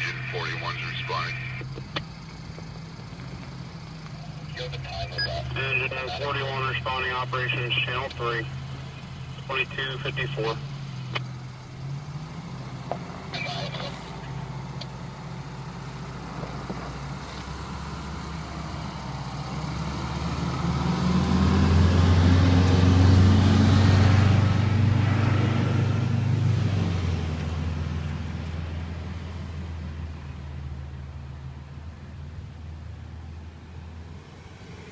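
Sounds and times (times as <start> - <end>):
fire engine driving past: 0.0 - 34.9.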